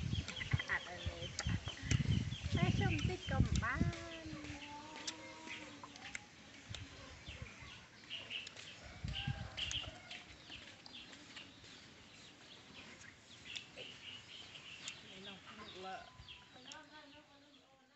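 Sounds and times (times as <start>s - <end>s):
chickens clucking: 0.0s - 16.8s
birds chirping: 0.0s - 17.9s.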